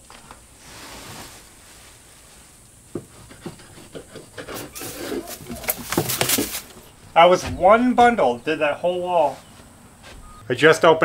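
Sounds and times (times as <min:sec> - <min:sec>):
insulation rubbing and rustling: 0:00.0 - 0:10.3.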